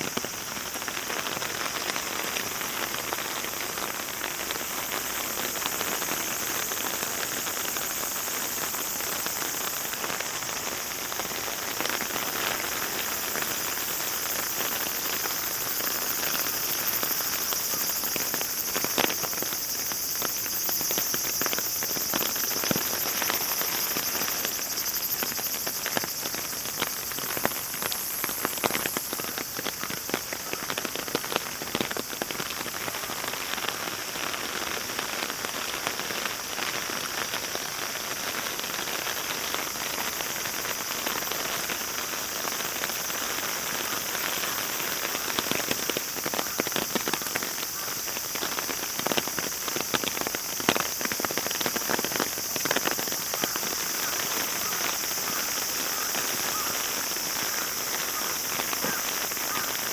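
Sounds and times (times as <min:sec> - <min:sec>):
heavy rain falling: 0:00.0 - 0:59.9
raindrops splatting on a surface: 0:00.1 - 0:59.9.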